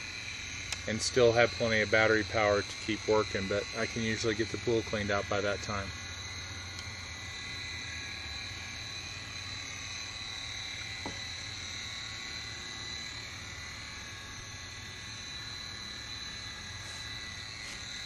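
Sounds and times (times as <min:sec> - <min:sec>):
high buzz: 0:00.0 - 0:18.0
pool vacuum motor humming: 0:00.0 - 0:18.0.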